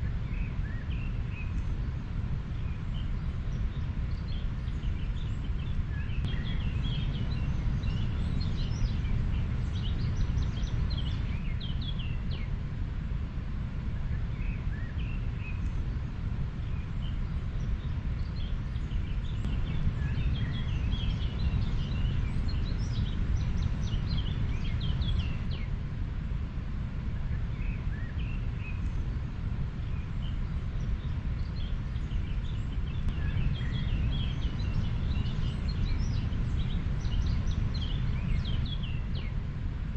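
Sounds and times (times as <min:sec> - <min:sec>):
small birds chirping: 0:00.0 - 0:12.8, 0:13.8 - 0:26.0, 0:27.0 - 0:39.9.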